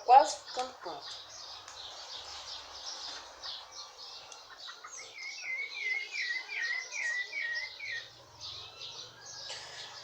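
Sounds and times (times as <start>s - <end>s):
bird chirping repeatedly: 0.0s - 10.0s.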